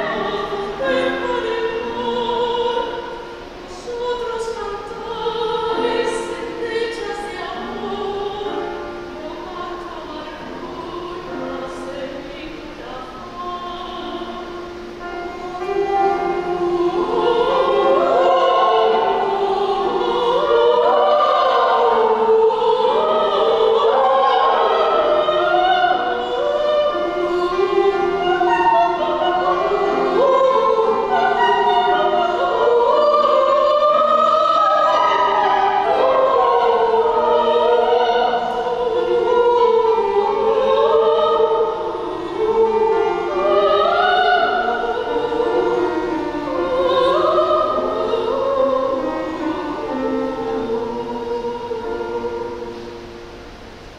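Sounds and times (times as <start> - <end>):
operatic singing: 0.0 - 53.9
piano accompaniment: 0.0 - 53.9.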